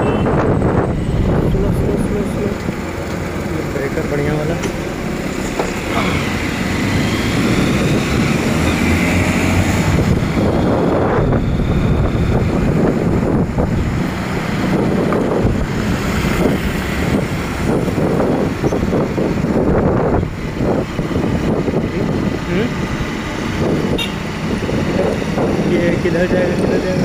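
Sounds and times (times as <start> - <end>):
road and traffic noise: 0.0 - 27.0
wind buffeting microphone: 0.0 - 27.0.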